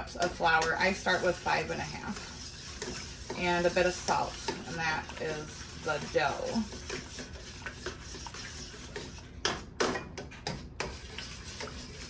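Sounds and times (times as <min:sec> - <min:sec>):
whisk clinking on bowl: 0:00.0 - 0:12.0
whisk scraping in metal bowl: 0:00.0 - 0:12.0.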